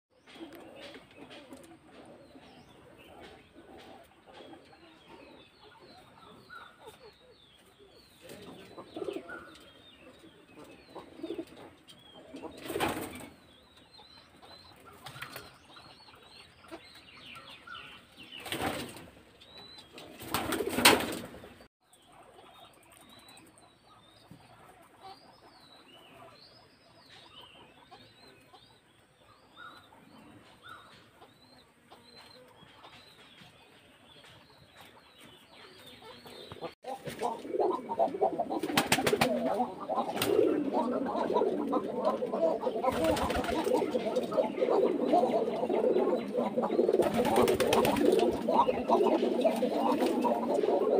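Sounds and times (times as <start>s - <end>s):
birds chirping: 0.1s - 50.9s.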